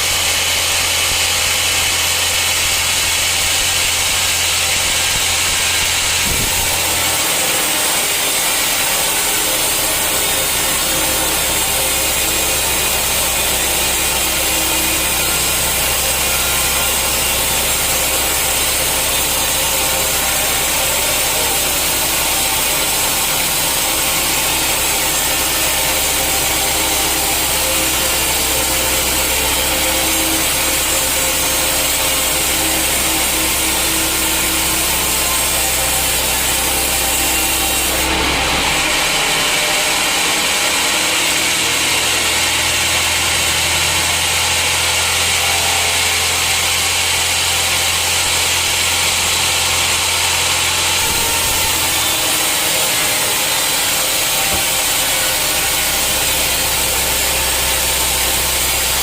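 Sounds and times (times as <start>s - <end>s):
low machine hum: 0.0s - 59.0s
saw blade cutting wood: 0.0s - 59.0s.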